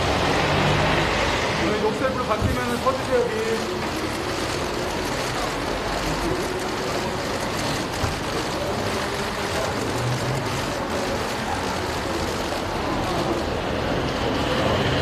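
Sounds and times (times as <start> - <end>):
vehicles running nearby: 0.0 - 15.0.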